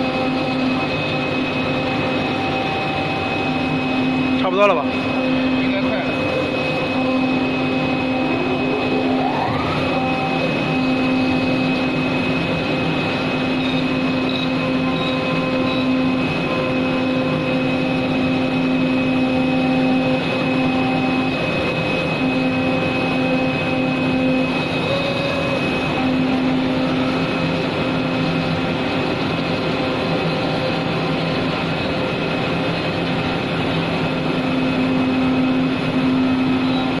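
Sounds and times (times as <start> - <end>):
cutting machine humming: 0.0 - 37.0
short rising machine whine: 0.0 - 37.0.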